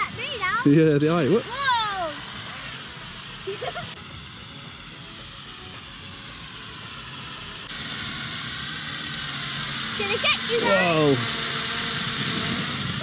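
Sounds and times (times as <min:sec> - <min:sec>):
toy drone propellers whirring: 0:00.0 - 0:13.0.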